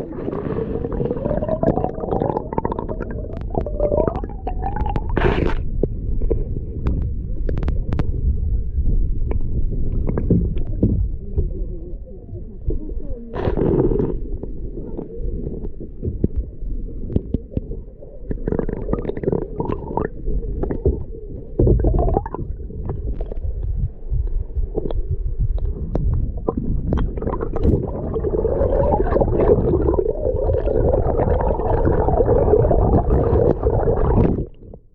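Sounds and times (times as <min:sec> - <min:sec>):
muffled underwater river rumbling: 0:00.0 - 0:34.9.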